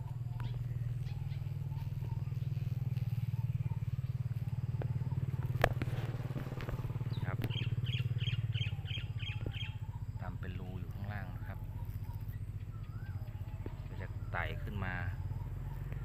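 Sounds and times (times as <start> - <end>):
bird chirping: 0.0 - 16.0
low droning hum: 0.0 - 16.0.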